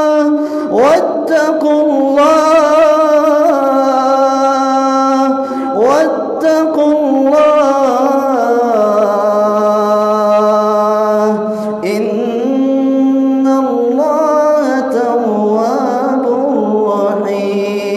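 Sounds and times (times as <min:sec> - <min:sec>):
man chanting into a microphone: 0:00.0 - 0:17.9.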